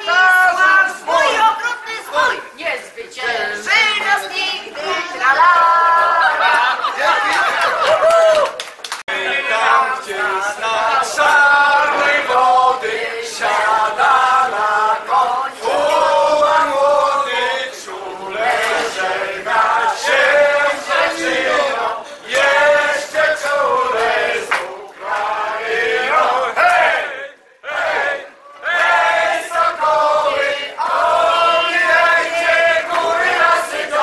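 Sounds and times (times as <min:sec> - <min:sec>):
group singing birthday song: 0:00.0 - 0:07.8, 0:09.0 - 0:34.0.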